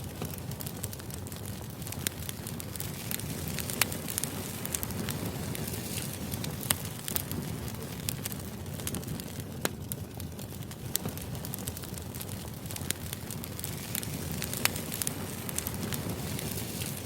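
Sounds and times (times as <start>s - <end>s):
sharp crackles and clicks: 0.0s - 17.0s.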